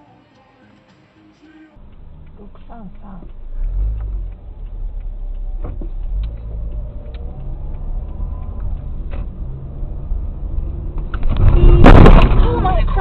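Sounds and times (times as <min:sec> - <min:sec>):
car engine and road noise: 0:01.0 - 0:13.0.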